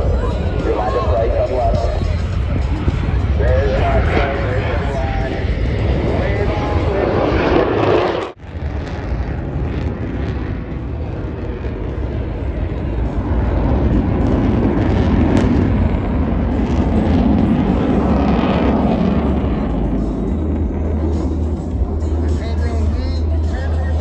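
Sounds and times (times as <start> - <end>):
plane flying overhead: 0.0 - 24.0.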